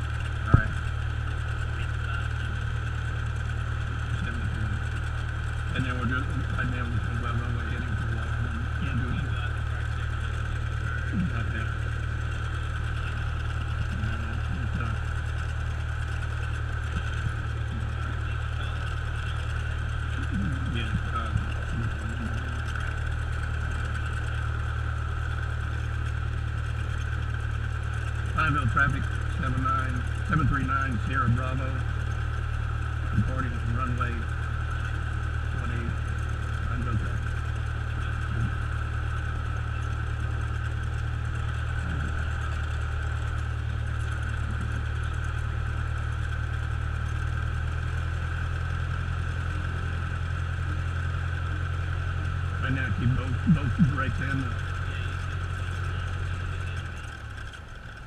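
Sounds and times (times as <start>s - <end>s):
plane engine droning: 0.0s - 58.0s.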